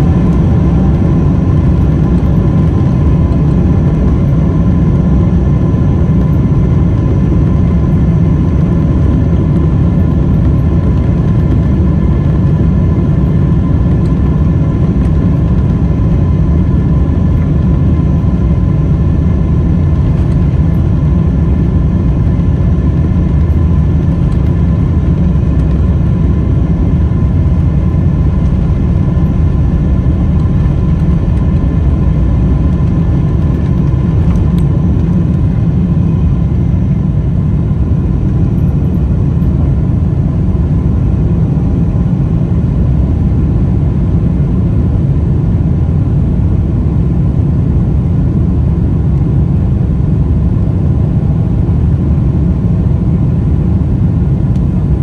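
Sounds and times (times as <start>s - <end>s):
faint steady engine whine: 0.0s - 55.0s
jet engine low rumble: 0.0s - 55.0s.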